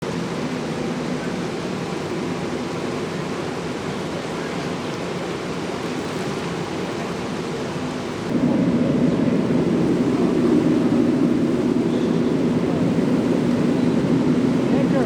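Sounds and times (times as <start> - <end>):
floodwater rushing: 0.0 - 15.0
traffic noise: 0.0 - 15.0.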